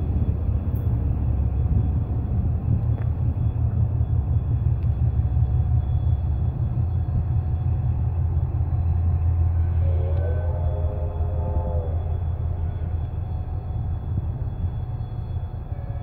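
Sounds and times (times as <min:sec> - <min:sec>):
electric locomotive rumble: 0:00.0 - 0:16.0.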